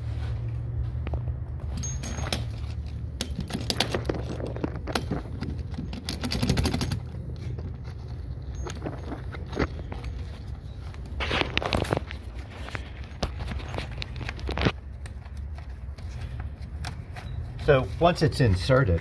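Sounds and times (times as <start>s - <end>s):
metal bolt clinking and scraping: 1.6s - 14.8s, 16.8s - 19.0s.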